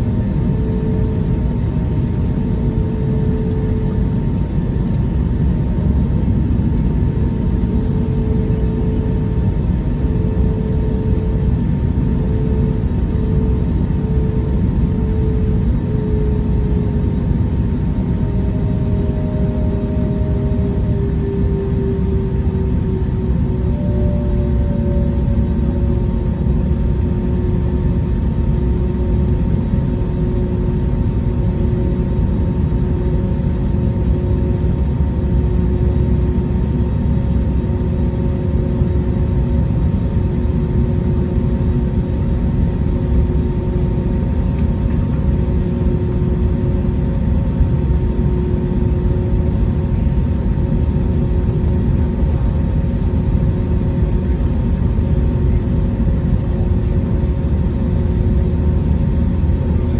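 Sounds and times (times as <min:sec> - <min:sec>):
airliner engines rumbling: 0:00.0 - 0:59.9.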